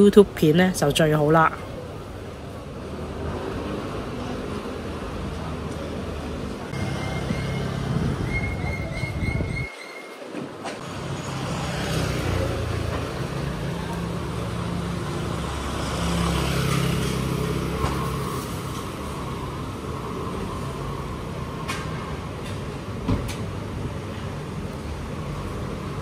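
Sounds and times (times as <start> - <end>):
street noise: 0.0 - 26.0.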